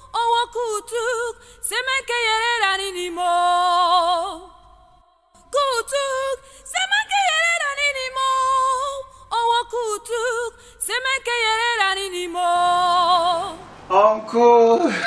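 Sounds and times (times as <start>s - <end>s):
woman singing unaccompanied: 0.0s - 4.6s, 5.4s - 13.7s.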